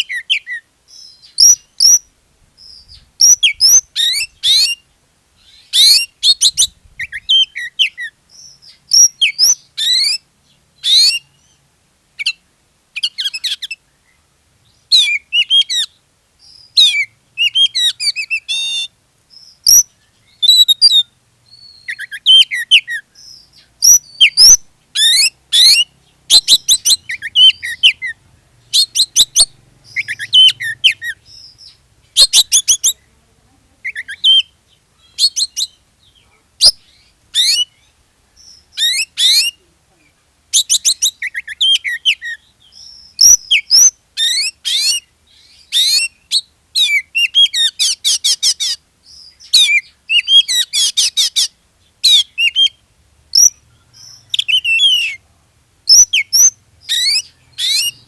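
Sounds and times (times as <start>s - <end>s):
bird singing whistles and trills: 0.0s - 4.8s, 5.4s - 11.6s, 13.0s - 33.1s, 33.9s - 39.6s, 40.5s - 55.2s, 55.9s - 58.0s.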